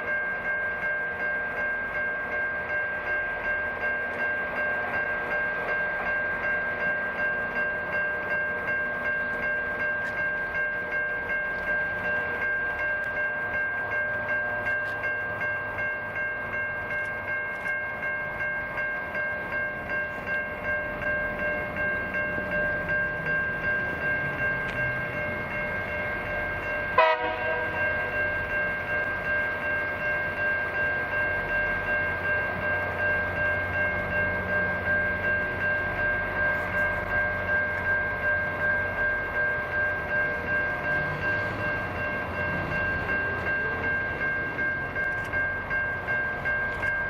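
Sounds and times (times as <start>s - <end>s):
rail grinder pulsing whine: 0.0s - 47.0s.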